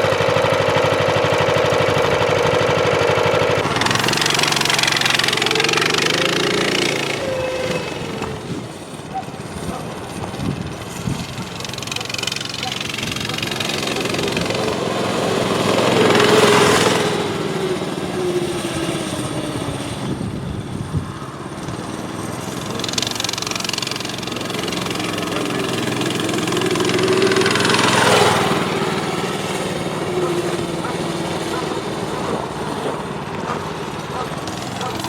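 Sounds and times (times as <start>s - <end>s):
mini-motorcycle engine running: 0.0s - 35.0s.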